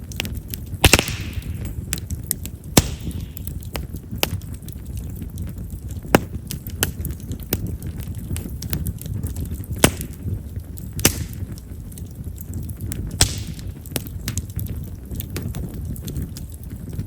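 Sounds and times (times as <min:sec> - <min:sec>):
bonfire crackling and popping: 0:00.0 - 0:17.0
low rumble of flame: 0:00.0 - 0:17.0.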